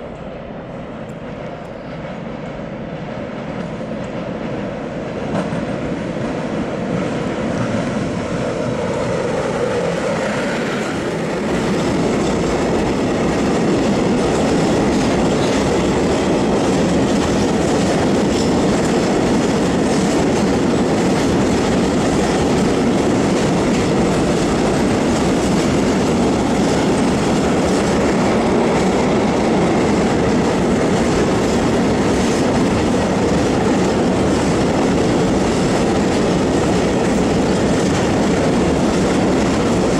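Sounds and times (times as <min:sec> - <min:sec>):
electric locomotive passing: 0:00.0 - 0:39.9.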